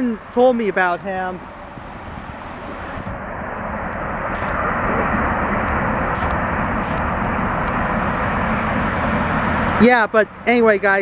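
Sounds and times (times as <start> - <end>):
freight train rumbling and rattling: 0.0 - 11.0.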